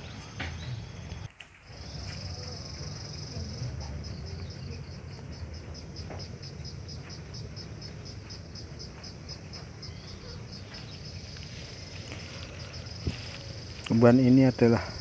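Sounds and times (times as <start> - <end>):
insect high-pitched pulsing trill: 0.0 - 15.0.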